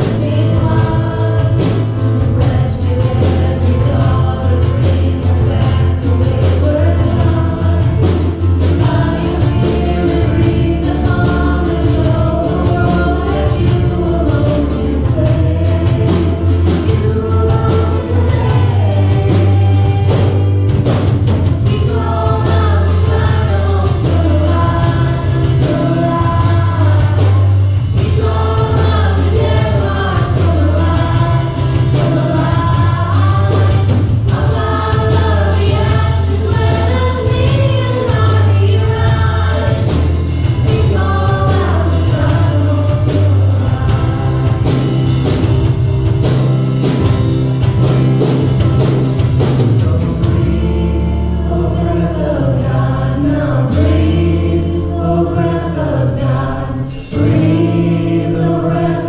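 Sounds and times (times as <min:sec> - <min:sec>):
drum kit beat: 0:00.0 - 0:59.0
guitar: 0:00.0 - 0:59.0
keyboard: 0:00.0 - 0:59.0
people singing into microphones: 0:00.0 - 0:59.0.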